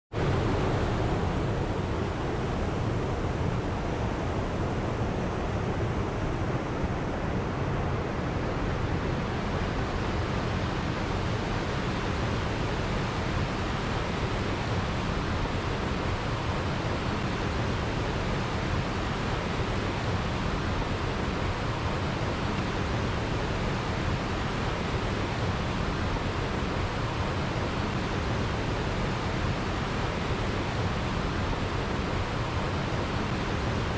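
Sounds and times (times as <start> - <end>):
mountain stream rushing over rocks: 0.2 - 33.9.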